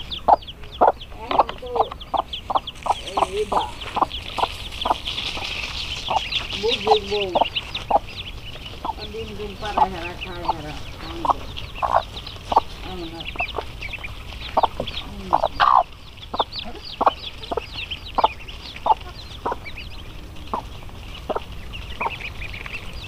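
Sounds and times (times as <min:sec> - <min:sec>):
chicken clucking: 0:00.0 - 0:23.0
high chirping: 0:00.0 - 0:23.0.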